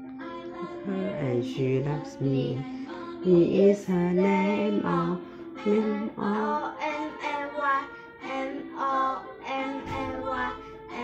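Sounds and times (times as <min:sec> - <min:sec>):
instrumental backing music: 0:00.0 - 0:11.0
boy singing: 0:00.2 - 0:11.0.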